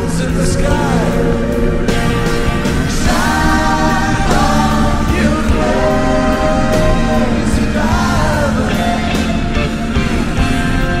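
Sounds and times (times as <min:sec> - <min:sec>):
song with sung vocals and band: 0:00.0 - 0:10.6.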